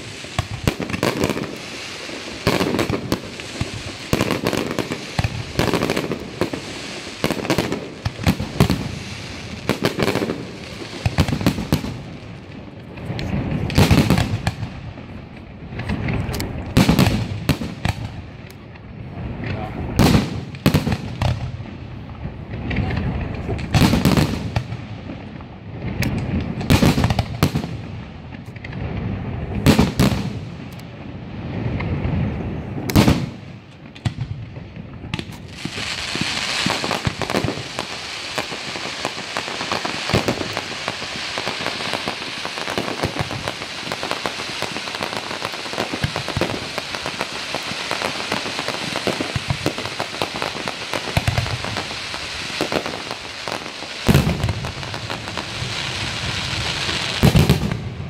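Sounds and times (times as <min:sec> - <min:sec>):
dense firework crackling: 0:00.0 - 0:58.0.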